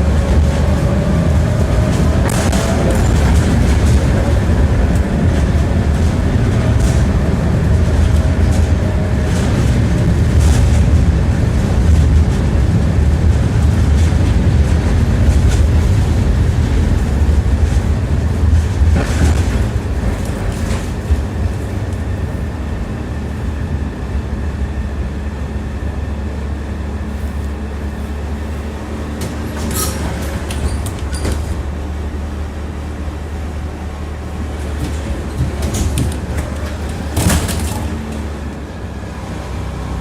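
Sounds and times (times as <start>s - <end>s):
wheels clacking over rail joints: 0.0s - 23.4s, 27.1s - 39.4s
tram rumbling on rails: 0.0s - 40.0s.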